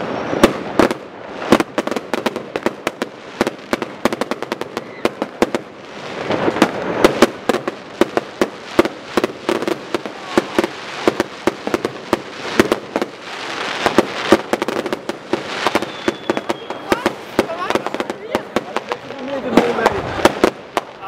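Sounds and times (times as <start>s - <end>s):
fireworks bangs and pops: 0.0s - 21.0s
fireworks crackling: 0.0s - 21.0s.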